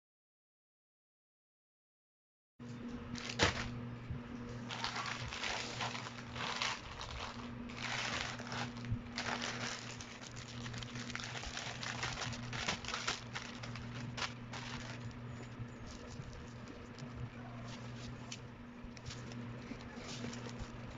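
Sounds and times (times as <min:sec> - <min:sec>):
low electrical hum: 0:02.6 - 0:20.9
crinkling and rustling: 0:03.1 - 0:03.8, 0:04.6 - 0:20.9.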